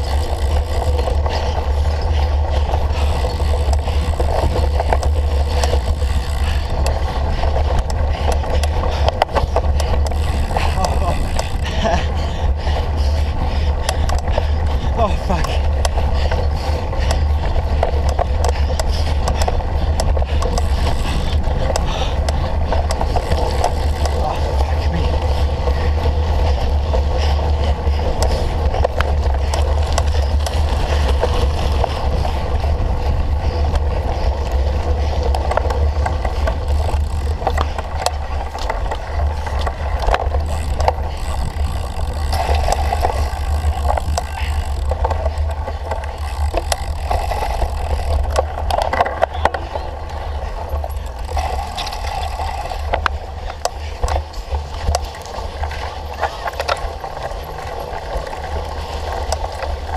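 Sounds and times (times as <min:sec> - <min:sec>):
bike rattling and ticking: 0:00.0 - 0:59.9
wind rumbling on microphone: 0:00.0 - 0:59.9.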